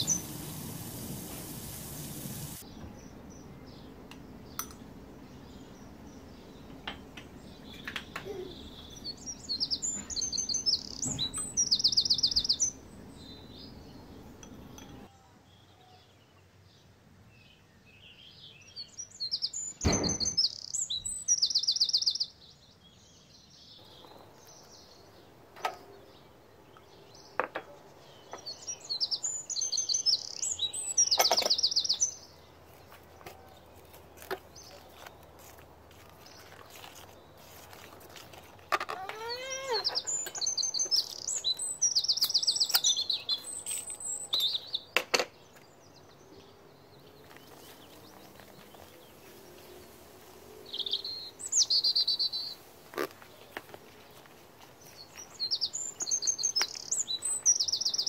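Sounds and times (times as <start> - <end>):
songbird chirping and trilling: 0.0 - 58.0.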